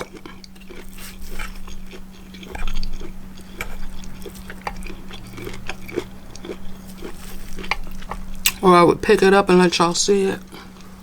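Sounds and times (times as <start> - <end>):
person chewing food: 0.0 - 8.6, 10.4 - 11.0.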